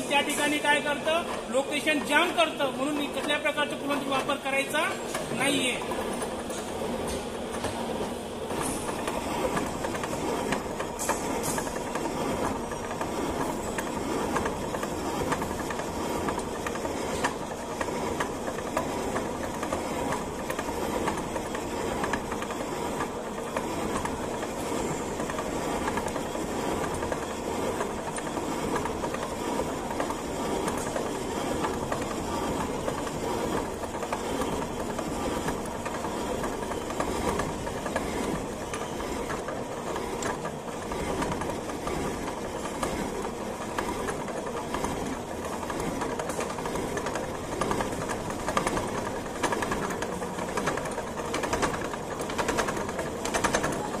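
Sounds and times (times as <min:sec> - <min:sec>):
constant machine hum: 0:00.0 - 0:54.0.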